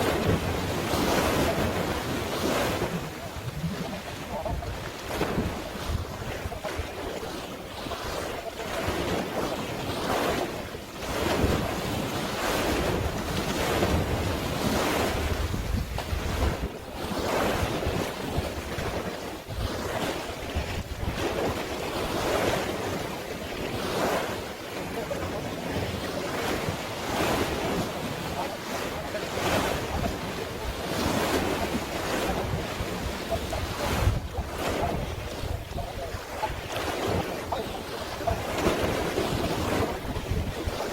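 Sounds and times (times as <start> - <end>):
sea waves washing: 0.0 - 40.9
wind buffeting microphone: 0.0 - 40.9.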